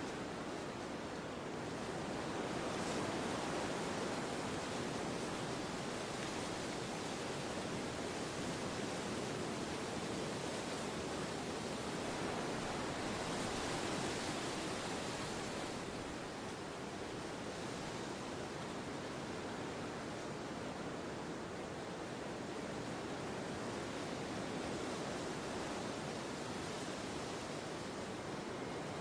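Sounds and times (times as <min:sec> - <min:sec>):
steady wind: 0:00.0 - 0:29.0.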